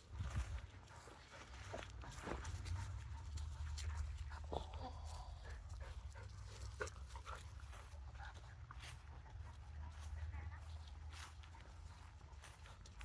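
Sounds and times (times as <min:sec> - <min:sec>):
dog panting: 0:00.2 - 0:13.0.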